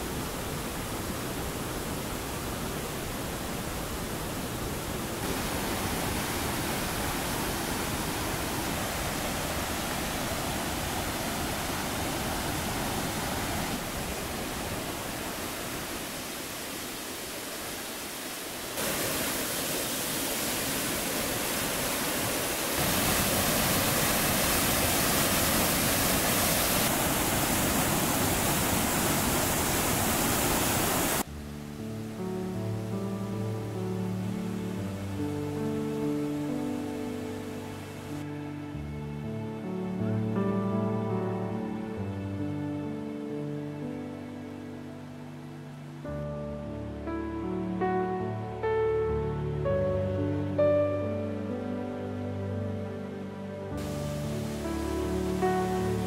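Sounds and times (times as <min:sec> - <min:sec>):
waterfall and rapids rushing: 0:00.0 - 0:56.0.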